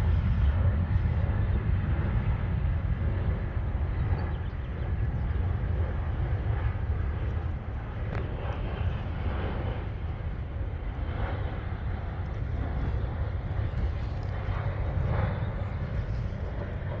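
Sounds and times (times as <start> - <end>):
airplane engine rumble: 0.0 - 17.0.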